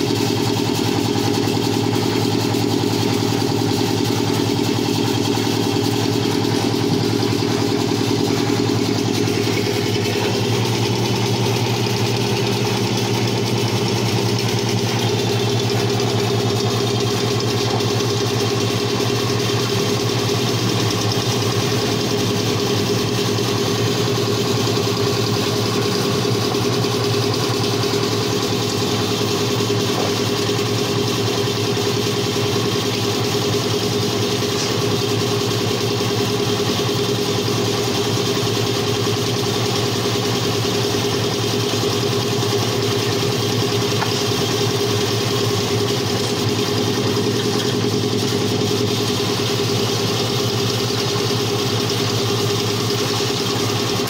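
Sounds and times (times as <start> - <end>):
engine droning steadily: 0.0 - 54.0.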